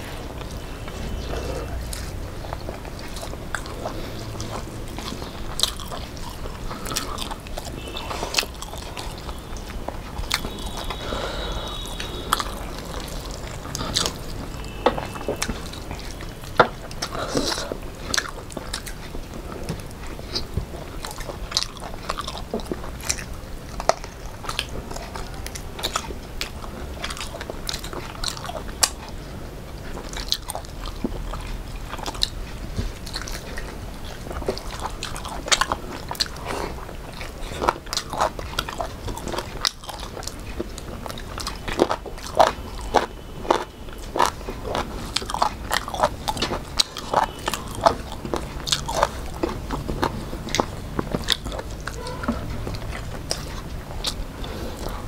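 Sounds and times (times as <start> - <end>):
people chewing and biting food: 0.0 - 55.0.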